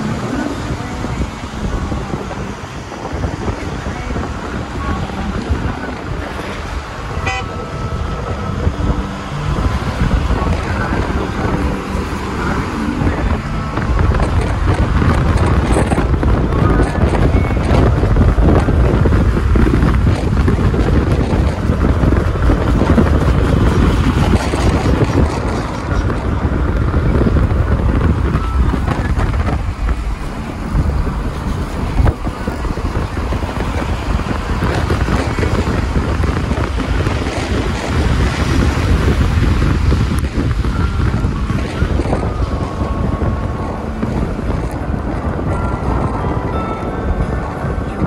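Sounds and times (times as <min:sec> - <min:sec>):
road and traffic noise: 0:00.0 - 0:48.0
wind buffeting microphone: 0:00.0 - 0:48.0.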